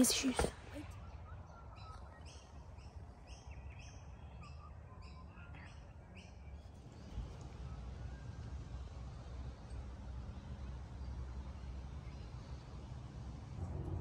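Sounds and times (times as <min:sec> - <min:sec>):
birds chirping: 0:00.0 - 0:13.3
faint low background rumble: 0:00.0 - 0:14.0.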